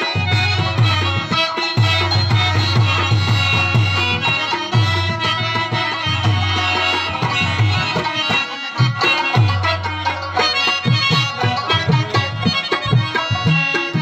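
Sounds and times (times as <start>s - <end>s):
harmonium melody: 0.0s - 14.0s
tabla beat: 0.0s - 14.0s.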